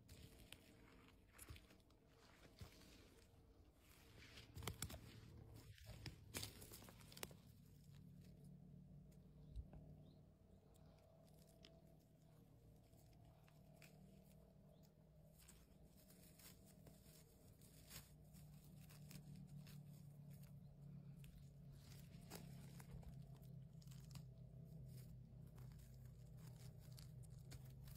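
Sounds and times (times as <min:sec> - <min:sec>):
low steady hum: 0:00.0 - 0:27.9
faint crackles and snaps: 0:04.2 - 0:27.9.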